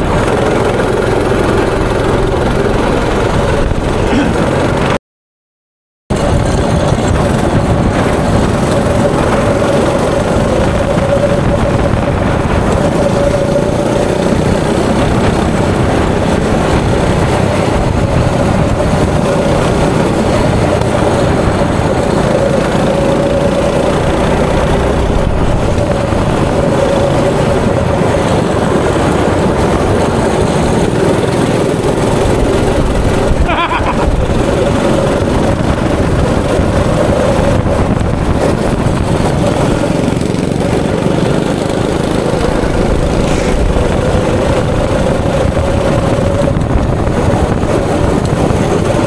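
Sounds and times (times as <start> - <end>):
go-kart engine running: 0.0 - 5.0, 6.1 - 49.0
rushing noise: 0.0 - 5.0, 6.1 - 49.0.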